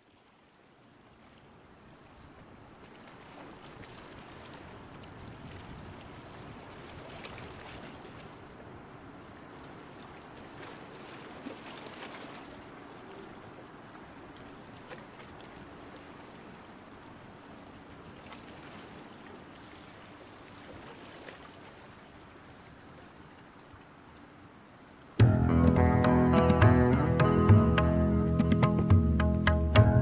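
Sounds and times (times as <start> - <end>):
water rushing along ship hull: 0.0 - 24.8.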